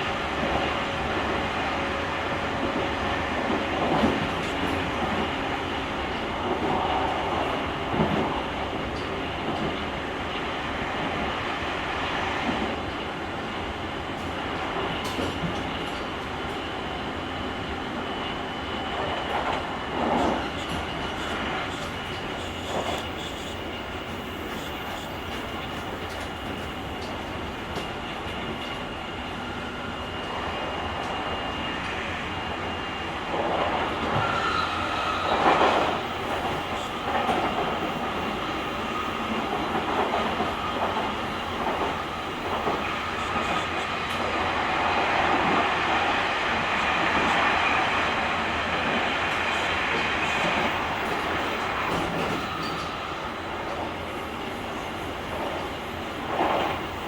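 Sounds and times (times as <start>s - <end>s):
train wheel and rail noise: 0.0s - 57.0s.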